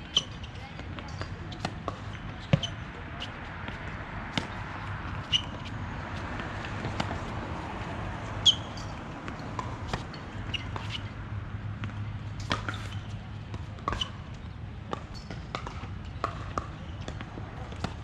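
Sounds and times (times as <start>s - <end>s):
ball bouncing on hard court: 0.2s - 2.8s, 3.6s - 7.7s, 8.4s - 11.1s, 11.8s - 14.2s, 14.9s - 18.0s.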